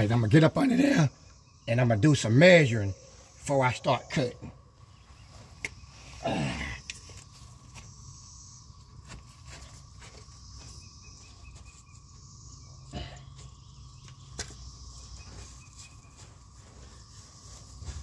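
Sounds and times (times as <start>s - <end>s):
insects buzzing faintly: 0.0s - 18.0s.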